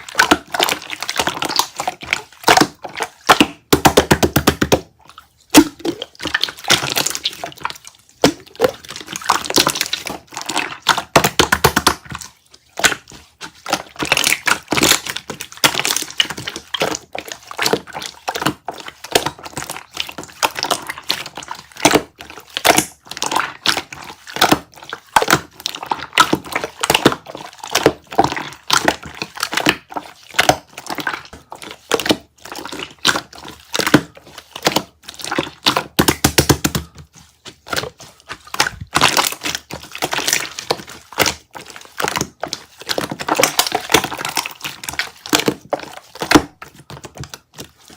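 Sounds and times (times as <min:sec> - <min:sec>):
slime squishing with sticky pops: 0:00.0 - 0:47.9.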